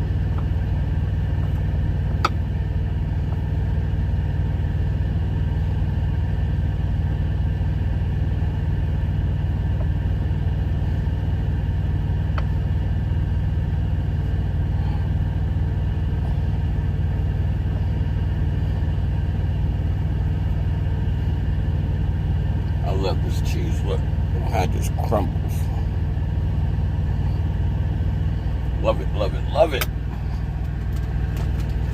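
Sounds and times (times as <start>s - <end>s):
diesel truck engine idling: 0.0s - 31.9s.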